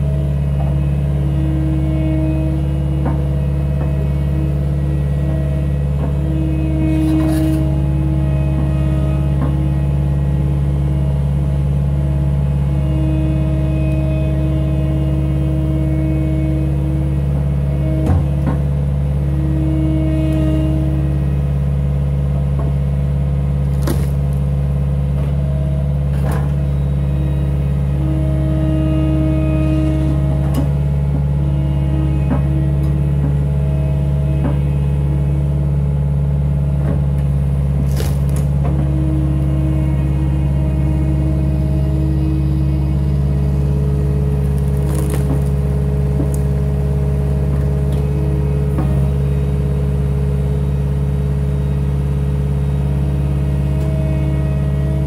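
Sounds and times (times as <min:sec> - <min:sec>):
diesel engine running: 0:00.0 - 0:55.0
hydraulic whine: 0:00.0 - 0:55.0.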